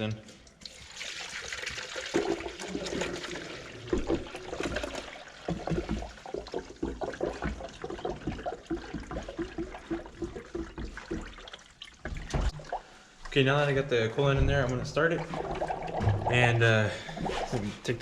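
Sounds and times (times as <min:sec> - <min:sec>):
liquid trickling into a funnel: 0:00.4 - 0:13.4, 0:14.9 - 0:17.5.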